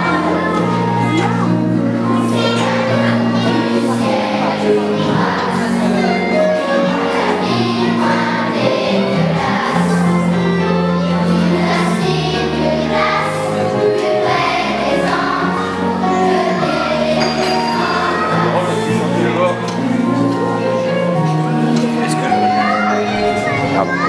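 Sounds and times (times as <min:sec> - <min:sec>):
children's choir singing: 0:00.0 - 0:24.0
instrumental accompaniment low notes: 0:00.0 - 0:24.0.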